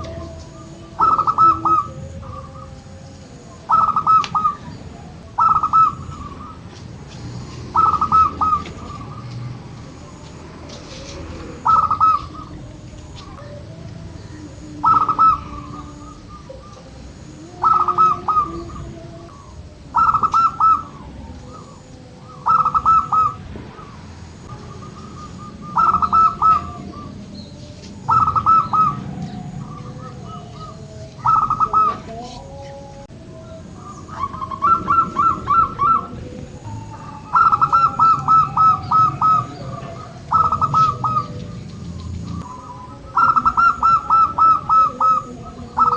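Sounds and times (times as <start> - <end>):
dove cooing: 0.0 - 45.9
small birds chirping: 0.0 - 45.9.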